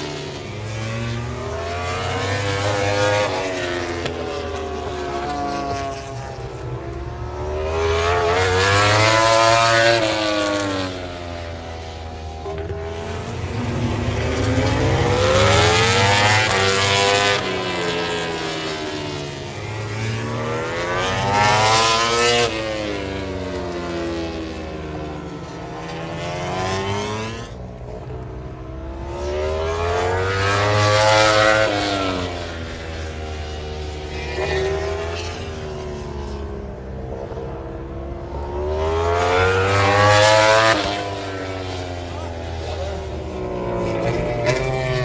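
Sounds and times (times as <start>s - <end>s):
racing motorcycles passing: 0.0s - 45.0s.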